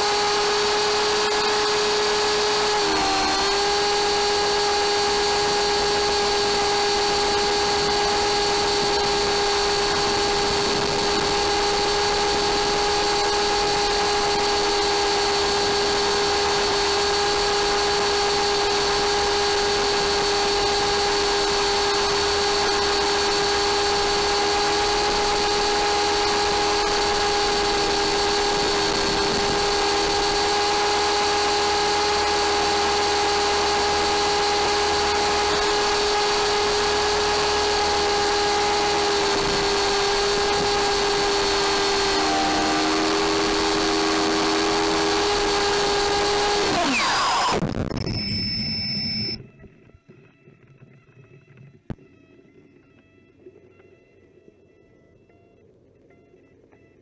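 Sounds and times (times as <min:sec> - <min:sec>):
model helicopter motor whine: 0:00.0 - 0:47.7.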